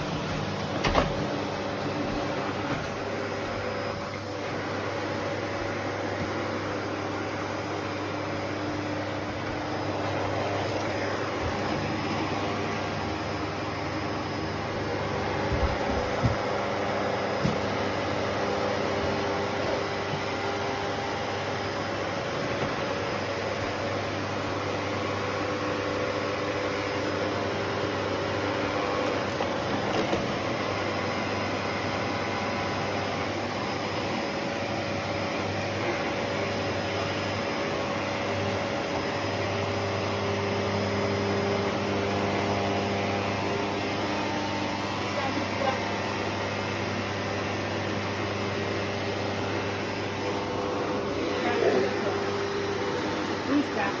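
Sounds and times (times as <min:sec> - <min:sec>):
vacuum cleaner motor whirring: 0:00.0 - 0:54.0.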